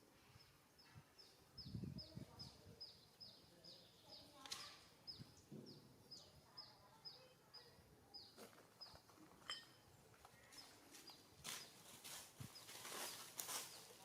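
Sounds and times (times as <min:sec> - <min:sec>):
bird chirping: 0:00.2 - 0:11.9.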